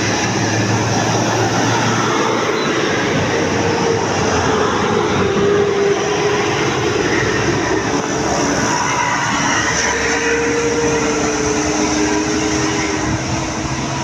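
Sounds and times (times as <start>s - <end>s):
heavy road traffic rumble: 0.0s - 14.0s.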